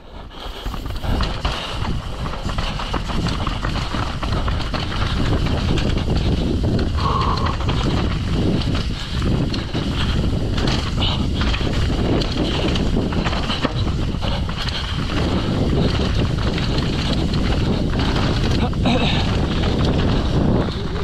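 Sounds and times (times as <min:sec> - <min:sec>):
bike rattling and knocking: 0:00.0 - 0:21.0
bike tyres on dirt and rock: 0:00.0 - 0:21.0
wind rushing over microphone: 0:00.0 - 0:21.0.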